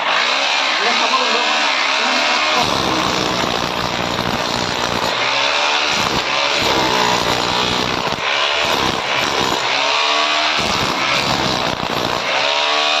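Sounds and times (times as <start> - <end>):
rotary hammer drill chiselling wall: 0.0 - 13.0.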